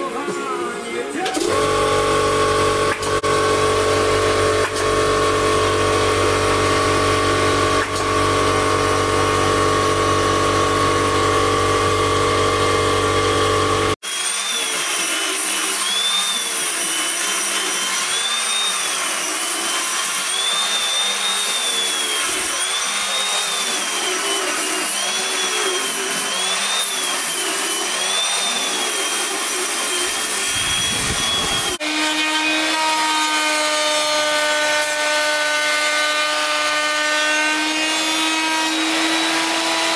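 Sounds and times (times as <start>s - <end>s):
power tool motor whine: 1.3s - 39.9s
power tool rising and falling pitch: 1.3s - 39.9s
woodworking machine motor hum: 1.4s - 39.9s.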